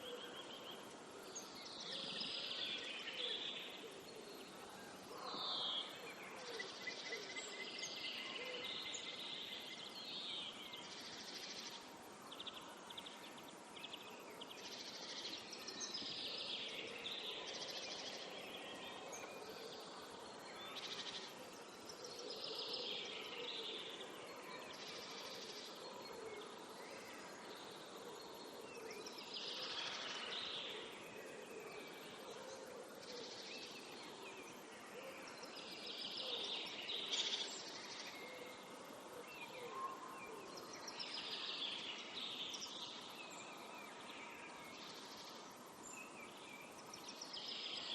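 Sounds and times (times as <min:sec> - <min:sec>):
faint outdoor hiss: 0:00.0 - 0:47.9.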